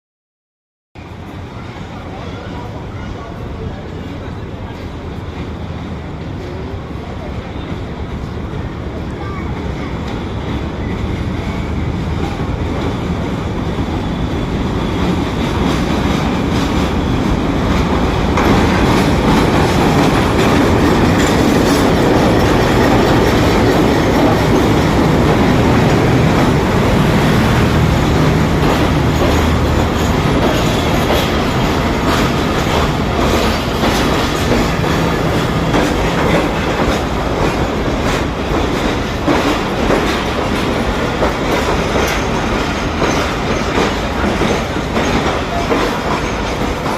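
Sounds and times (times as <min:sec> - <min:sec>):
train wheels rumbling on rails: 0:01.0 - 0:46.9.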